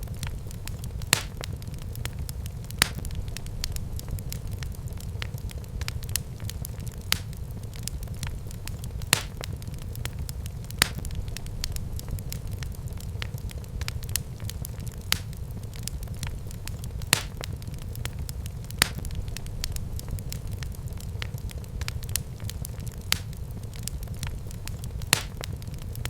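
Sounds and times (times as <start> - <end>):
fire crackling in fireplace: 0.0 - 26.0.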